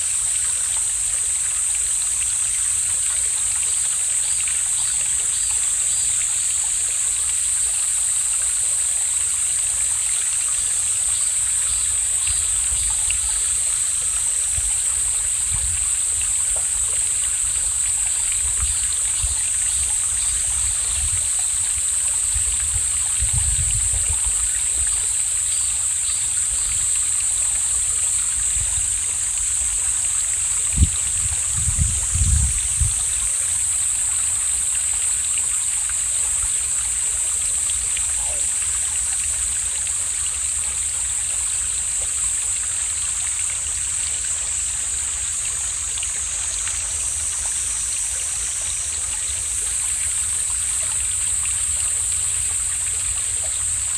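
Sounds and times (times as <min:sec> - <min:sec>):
stream flowing: 0:00.0 - 0:53.9.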